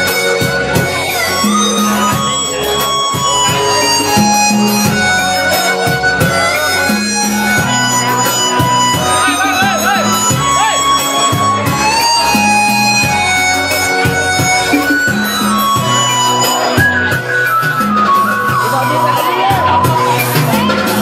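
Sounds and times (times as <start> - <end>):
loud amplified music: 0.0 - 21.0.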